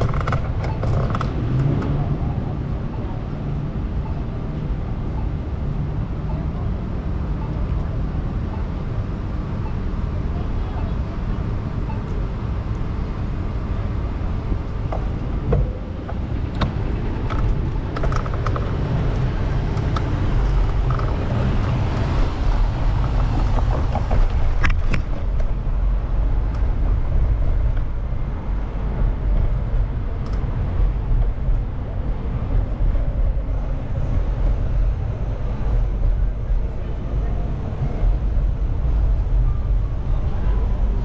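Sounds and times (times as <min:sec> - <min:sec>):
street traffic rumble: 0:00.0 - 0:41.0.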